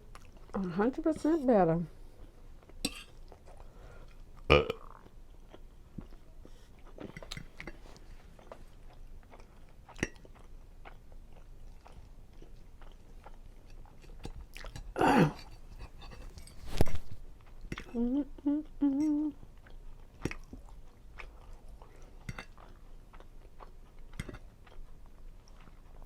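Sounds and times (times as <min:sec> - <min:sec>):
close chewing with wet clicks: 0:00.1 - 0:00.9, 0:02.2 - 0:16.3, 0:17.4 - 0:26.0.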